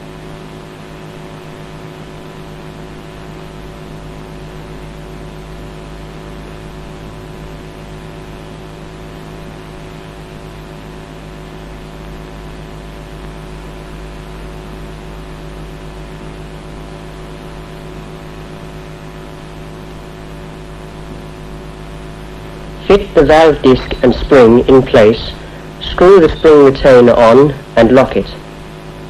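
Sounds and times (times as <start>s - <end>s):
constant hiss: 0.0s - 29.0s
electrical hum: 0.0s - 29.0s.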